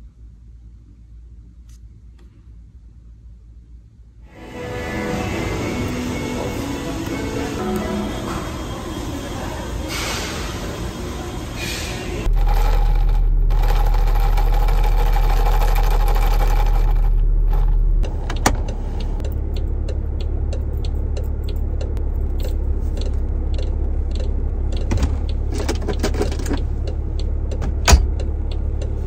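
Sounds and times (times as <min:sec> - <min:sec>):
car engine rumble in cabin: 0:00.0 - 0:29.0.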